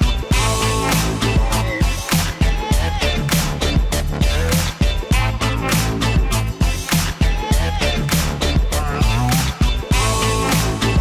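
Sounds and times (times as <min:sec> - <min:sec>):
funk music with singing: 0:00.0 - 0:11.0.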